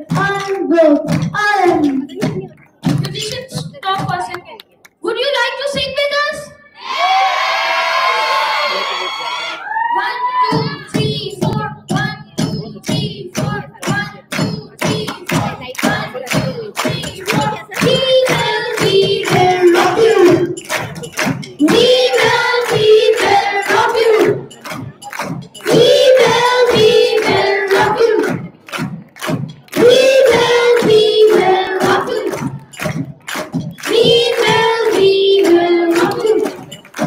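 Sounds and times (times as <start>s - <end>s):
young voices singing together: 0.0s - 4.2s, 6.8s - 37.0s
sharp percussive beat: 0.0s - 4.6s, 10.5s - 37.0s.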